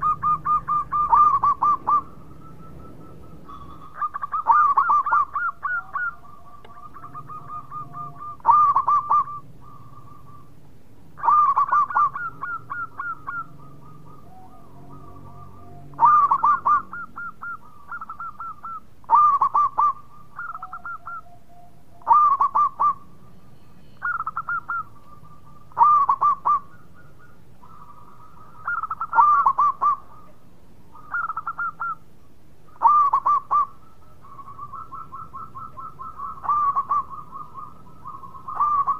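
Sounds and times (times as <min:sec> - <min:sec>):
dove cooing: 0:00.0 - 0:38.9
soft bird trilling: 0:00.0 - 0:38.9.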